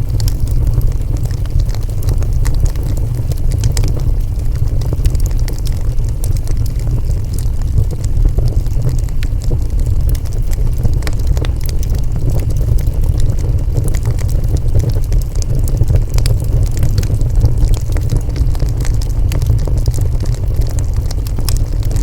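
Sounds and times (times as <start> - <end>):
fire roaring: 0.0 - 22.0
wood crackling and popping: 0.0 - 22.0.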